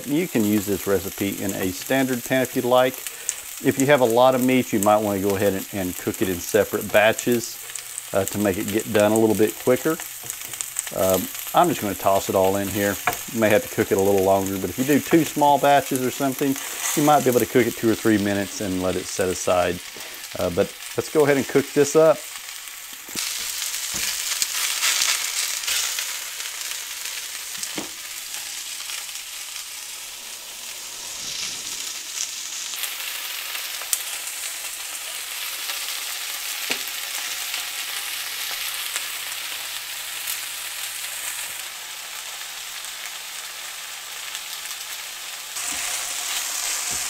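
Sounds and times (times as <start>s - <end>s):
steak sizzling in oil: 0.0s - 47.0s.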